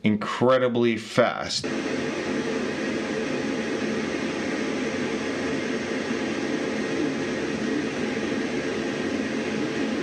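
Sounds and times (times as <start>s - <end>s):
printer whirring: 1.6s - 10.0s.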